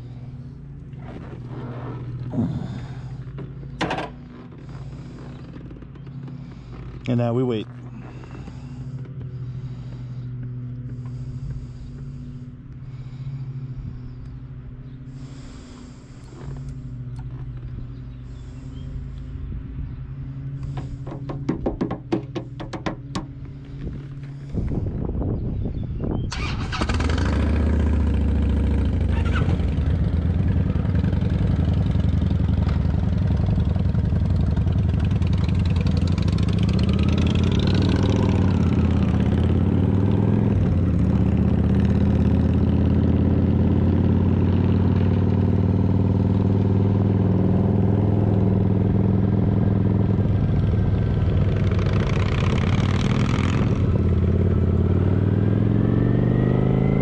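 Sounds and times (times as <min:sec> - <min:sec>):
motorcycle engine starting and running: 0:00.0 - 0:57.0.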